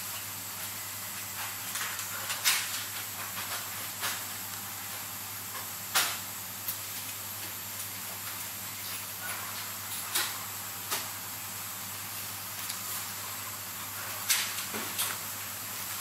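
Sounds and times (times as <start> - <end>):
steady hiss and low hum: 0.0 - 16.0.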